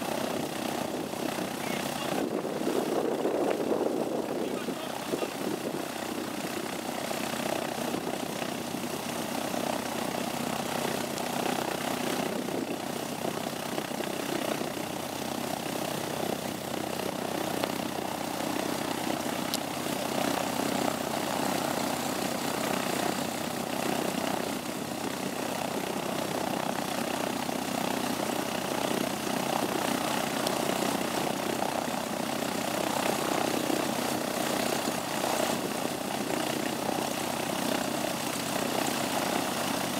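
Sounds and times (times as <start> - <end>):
propeller aircraft engine in cabin: 0.0 - 39.9.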